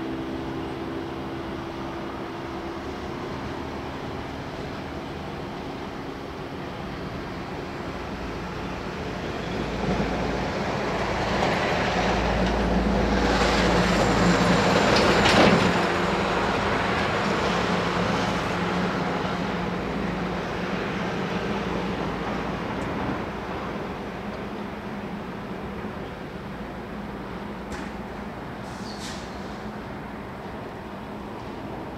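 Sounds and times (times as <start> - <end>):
electric train running on track: 0.0 - 28.6.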